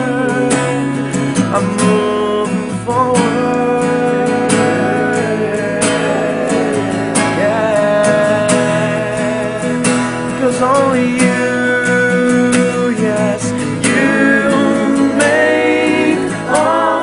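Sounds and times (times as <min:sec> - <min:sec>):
guitar melody: 0:00.0 - 0:17.0.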